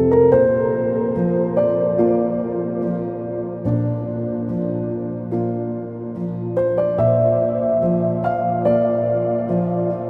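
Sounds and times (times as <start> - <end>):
calm ambient piano piece: 0.0 - 10.0.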